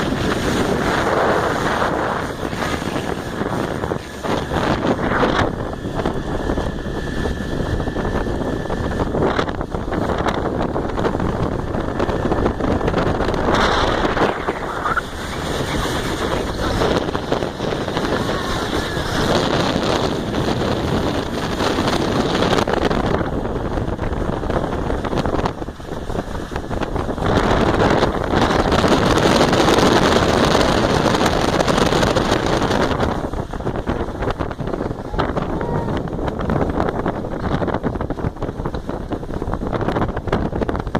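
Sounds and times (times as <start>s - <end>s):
water rushing: 0.0s - 37.2s
outboard motor running: 0.0s - 40.9s
wind buffeting the microphone: 0.0s - 40.9s.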